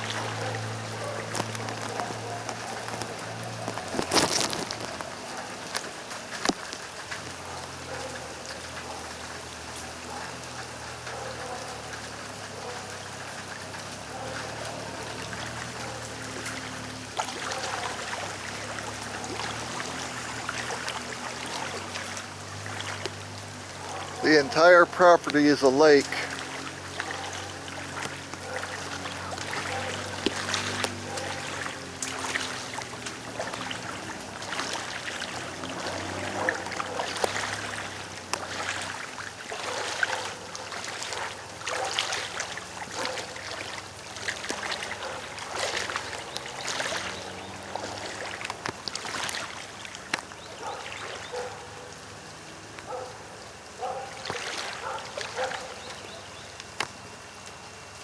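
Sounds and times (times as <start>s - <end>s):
running water: 0.0s - 58.0s
water splashes: 0.0s - 58.0s.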